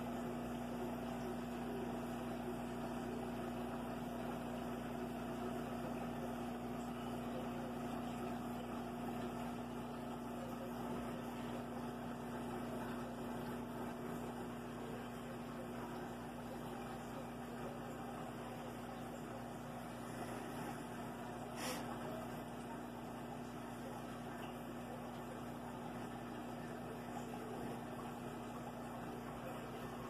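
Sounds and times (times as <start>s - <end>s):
aquarium pump humming: 0.0s - 30.0s.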